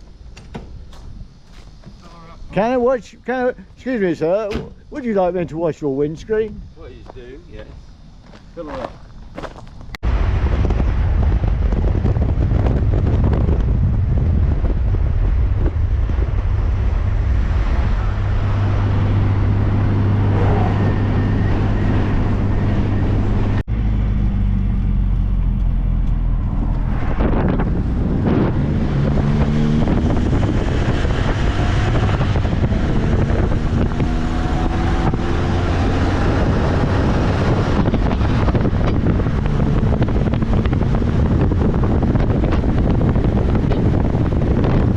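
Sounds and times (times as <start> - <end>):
wind buffeting microphone: 1.0 - 23.6, 25.6 - 44.9.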